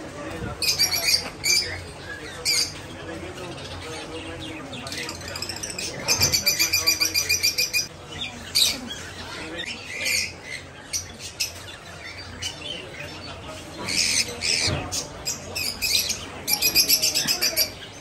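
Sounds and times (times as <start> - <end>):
budgerigars chirping and squawking: 0.3 - 18.0.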